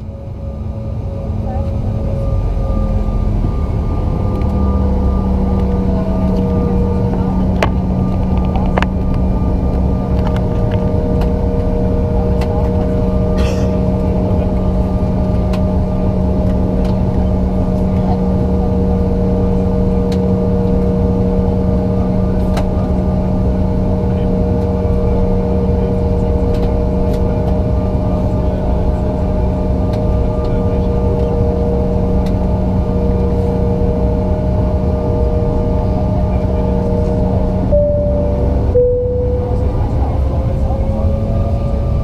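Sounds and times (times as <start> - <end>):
airplane cabin drone: 0.0 - 42.0.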